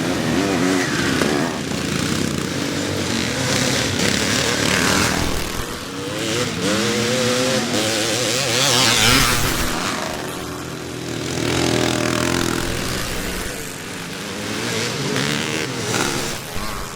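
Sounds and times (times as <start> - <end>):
motocross motorcycles revving: 0.0 - 16.9.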